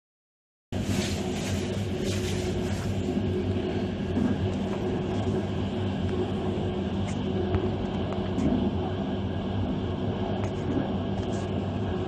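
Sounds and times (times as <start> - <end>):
train wheels rumbling on track: 0.8 - 11.3
low hum: 0.8 - 12.0.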